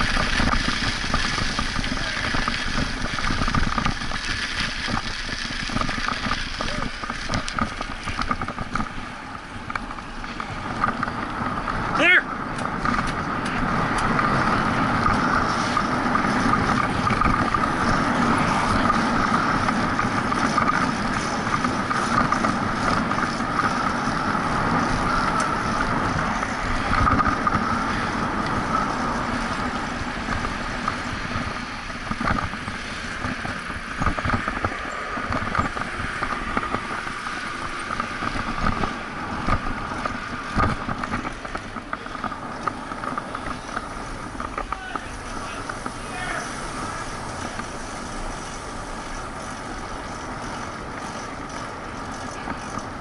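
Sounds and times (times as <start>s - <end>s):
bicycle road noise: 0.0s - 53.0s
wind rushing over microphone: 0.0s - 53.0s.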